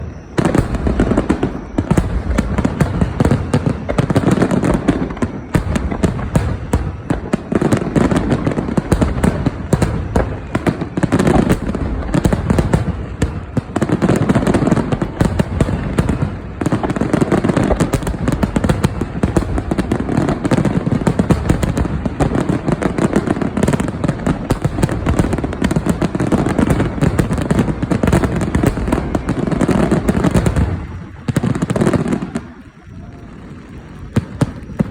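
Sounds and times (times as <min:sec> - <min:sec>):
fireworks bursts and crackles: 0:00.0 - 0:34.9.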